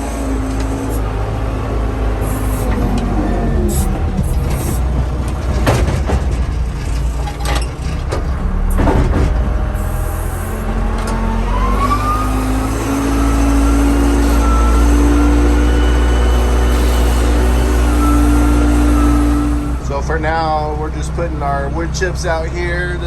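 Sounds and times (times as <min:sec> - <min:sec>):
rising whine: 0:00.0 - 0:05.8, 0:06.8 - 0:20.9
diesel engine running: 0:00.0 - 0:23.0.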